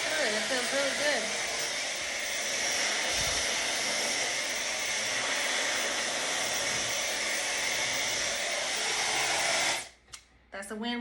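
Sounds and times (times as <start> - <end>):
hair dryer blowing: 0.0 - 10.0.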